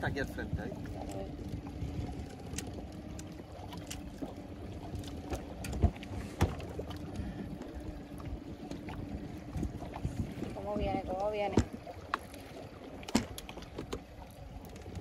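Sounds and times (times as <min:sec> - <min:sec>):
steady low hum: 0:00.0 - 0:15.0
water around boat: 0:00.0 - 0:15.0
wind: 0:00.0 - 0:15.0.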